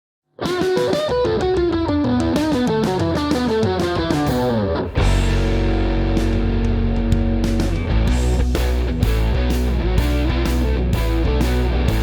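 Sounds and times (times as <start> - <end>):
overdriven electric guitar: 0.4 - 12.0.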